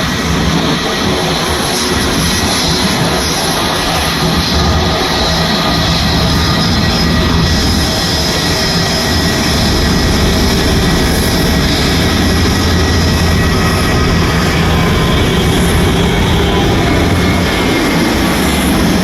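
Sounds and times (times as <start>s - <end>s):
aircraft engines at high power: 0.0s - 19.0s
steady whining tones: 0.0s - 19.0s.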